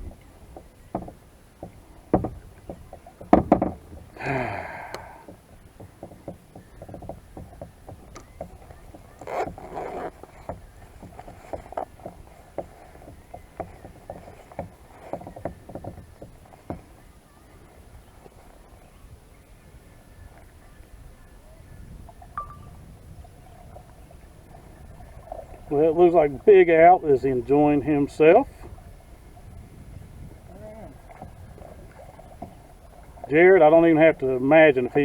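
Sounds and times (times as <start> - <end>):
paddle knocking against plastic hull: 0.0 - 17.2, 21.8 - 35.0
paddle splashing: 0.0 - 35.0.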